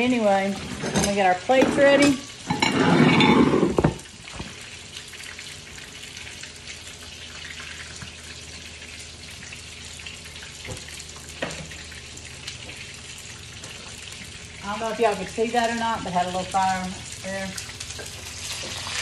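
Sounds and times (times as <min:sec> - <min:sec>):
oil sizzling in a frying pan: 0:00.0 - 0:19.0.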